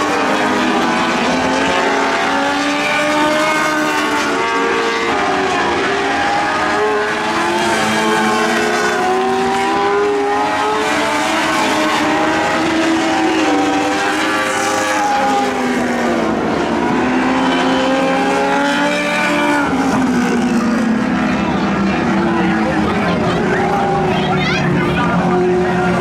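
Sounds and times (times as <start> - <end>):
racing car engines at high revs: 0.0 - 26.0.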